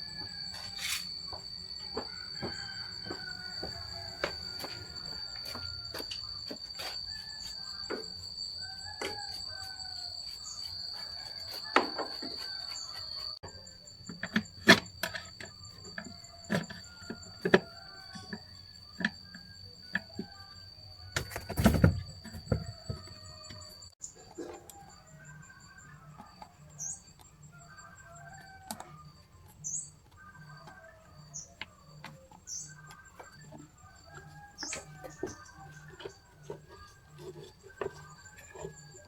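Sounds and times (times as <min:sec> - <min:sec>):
high-pitched insect drone: 0:00.0 - 0:39.0.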